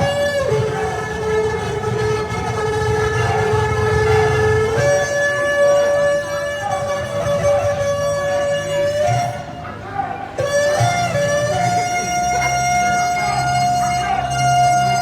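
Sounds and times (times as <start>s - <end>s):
shofar blast: 0.0s - 15.0s.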